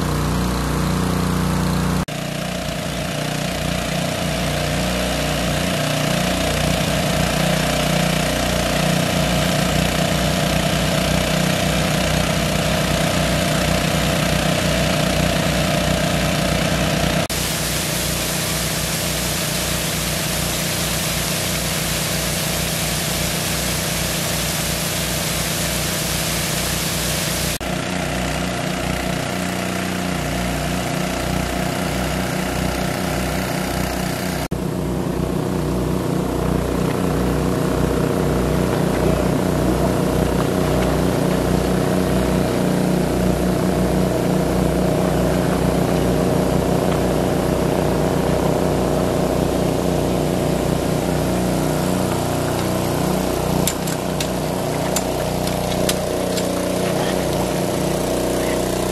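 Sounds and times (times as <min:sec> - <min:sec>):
water jets spraying onto gravel: 0:00.0 - 0:34.5, 0:36.4 - 0:58.9
small water pump engines: 0:00.0 - 0:58.9.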